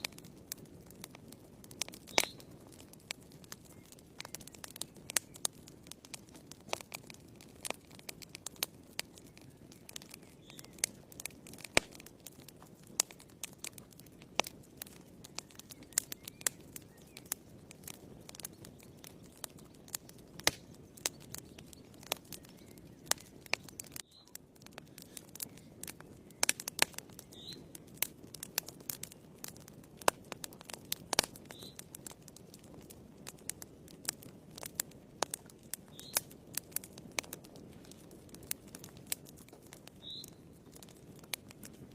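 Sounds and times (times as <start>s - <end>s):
firewood crackling and popping: 0.0s - 41.9s.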